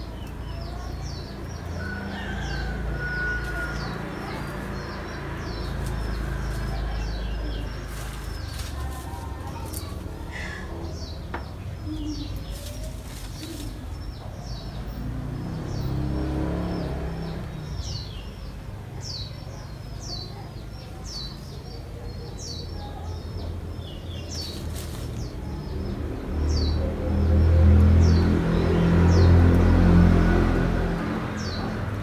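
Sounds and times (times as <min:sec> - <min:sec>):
small birds chirping: 0:00.0 - 0:30.0, 0:31.0 - 0:32.0.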